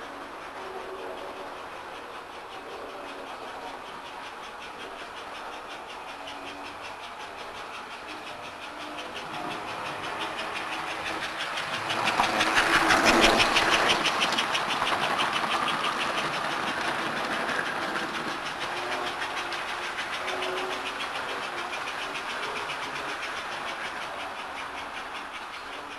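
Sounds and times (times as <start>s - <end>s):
model train clicking on track: 0.0s - 25.9s.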